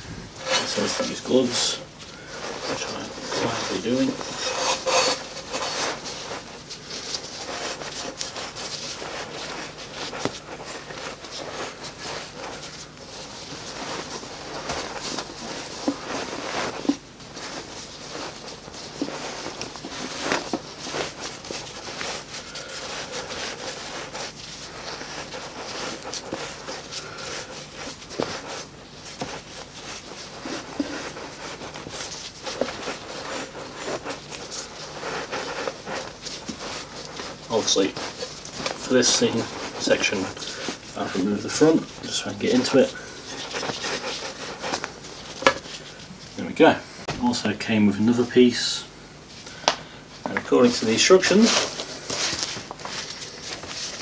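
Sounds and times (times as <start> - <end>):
gloved hands rustling and crackling: 0.0 - 46.8, 49.6 - 54.0.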